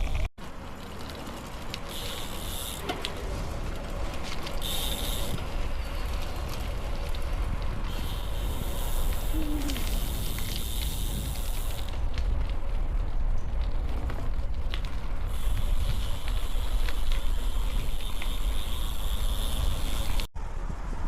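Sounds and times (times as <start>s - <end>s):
wind buffeting microphone: 3.1s - 21.0s.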